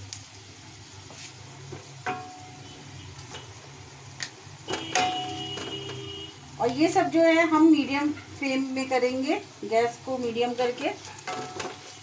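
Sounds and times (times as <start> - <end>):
spices sizzling in oil: 0.0 - 12.0.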